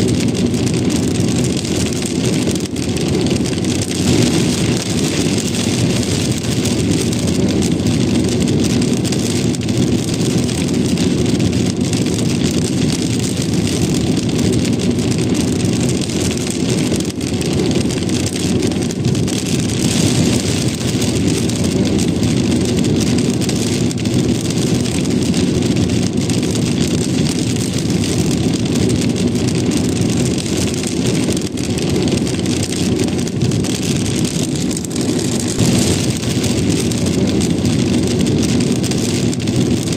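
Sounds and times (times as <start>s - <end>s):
car road and engine rumble: 0.0s - 39.9s
rain pattering: 0.0s - 39.9s.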